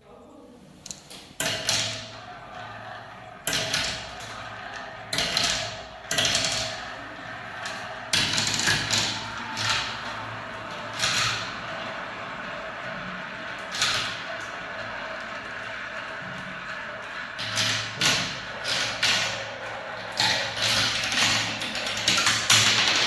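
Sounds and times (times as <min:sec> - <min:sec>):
marbles clacking on track: 0:01.4 - 0:23.0
marbles rolling on track: 0:01.4 - 0:23.0.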